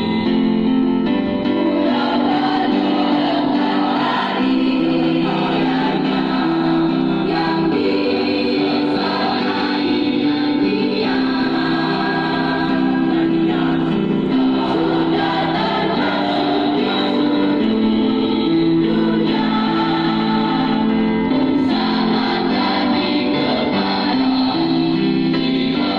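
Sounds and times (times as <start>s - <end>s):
choir singing in parts: 0.0s - 25.9s.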